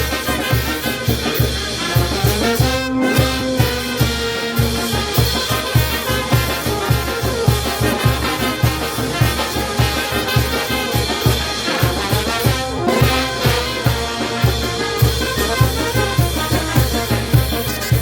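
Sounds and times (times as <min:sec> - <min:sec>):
brass band playing: 0:00.0 - 0:18.0.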